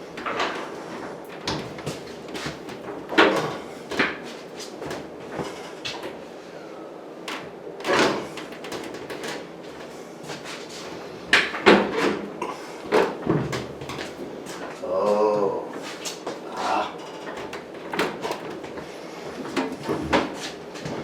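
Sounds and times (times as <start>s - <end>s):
washer dryer scraping and bumping: 0.0s - 6.3s, 7.2s - 14.8s, 15.8s - 21.0s.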